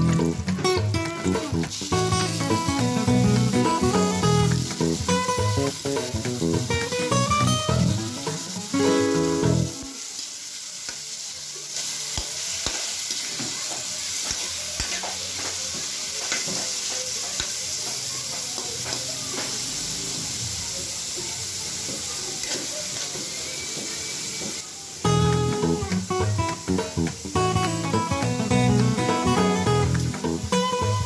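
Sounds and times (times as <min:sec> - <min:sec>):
chicken sizzling in a wok: 0:00.0 - 0:31.0.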